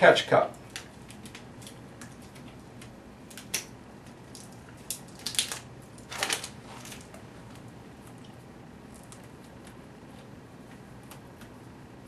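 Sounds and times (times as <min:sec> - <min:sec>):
plastic clicks and crinkles: 0:00.6 - 0:10.3.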